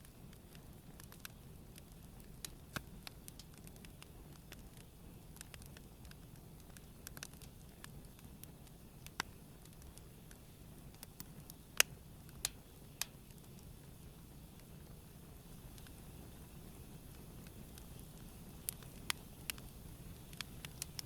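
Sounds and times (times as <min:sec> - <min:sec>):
campfire crackling: 0:00.0 - 0:21.0
low steady rumble: 0:00.0 - 0:21.0.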